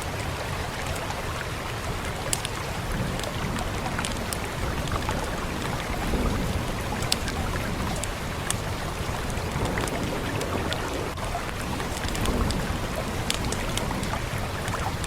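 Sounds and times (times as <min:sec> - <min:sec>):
fireplace crackling and popping: 0:00.0 - 0:15.0
rain hissing: 0:00.0 - 0:15.0.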